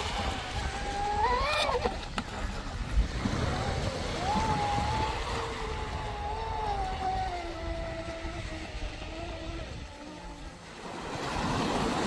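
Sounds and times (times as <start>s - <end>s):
low wind and water rumble: 0.0s - 12.0s.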